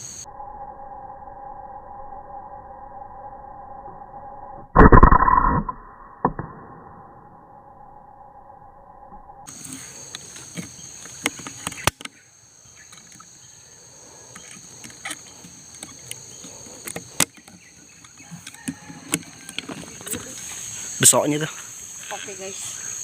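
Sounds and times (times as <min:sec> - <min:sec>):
insects buzzing: 0:00.0 - 0:04.5, 0:07.5 - 0:23.0.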